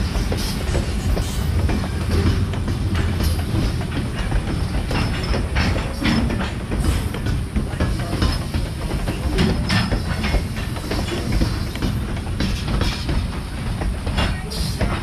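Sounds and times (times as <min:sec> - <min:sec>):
freight train rumbling past: 0:00.0 - 0:15.0
wheels clattering over rail joints: 0:00.0 - 0:15.0.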